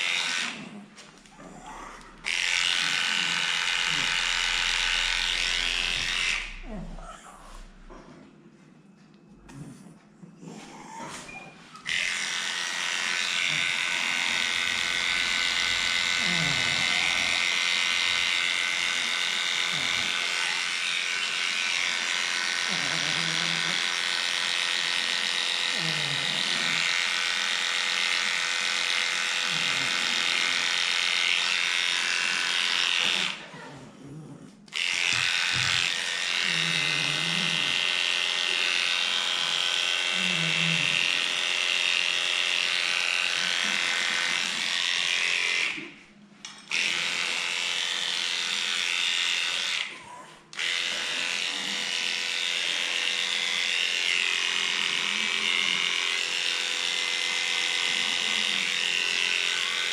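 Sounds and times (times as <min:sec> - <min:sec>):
electric clippers whining: 0:00.0 - 0:07.0, 0:11.0 - 0:33.8, 0:34.6 - 0:59.9.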